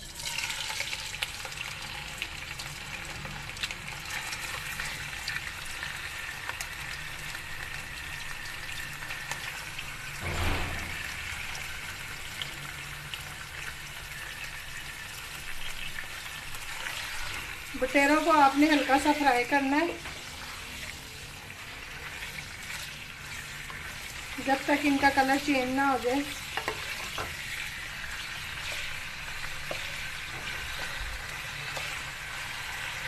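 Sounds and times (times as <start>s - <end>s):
meat sizzling in hot oil: 0.0s - 33.0s.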